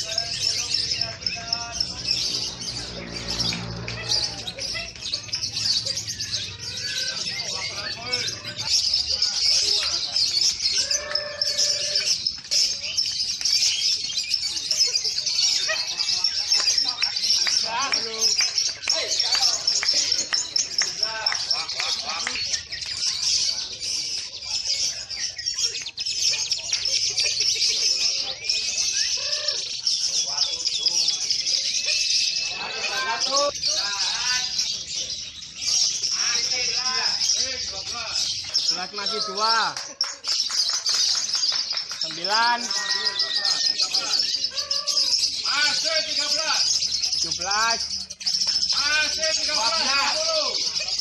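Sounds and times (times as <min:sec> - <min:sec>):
lovebirds chirping and trilling: 0:00.0 - 0:51.0.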